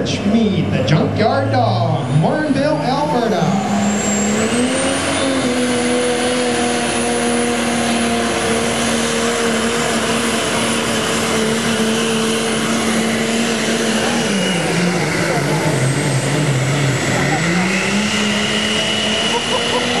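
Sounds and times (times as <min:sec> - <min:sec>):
diesel tractor engine at full throttle: 0:00.0 - 0:20.0.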